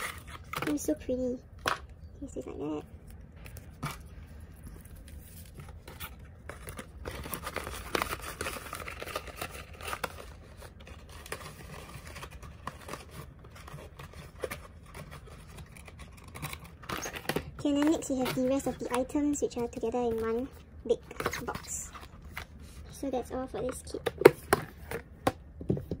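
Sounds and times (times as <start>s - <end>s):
paper and card rustling: 0.0s - 25.2s.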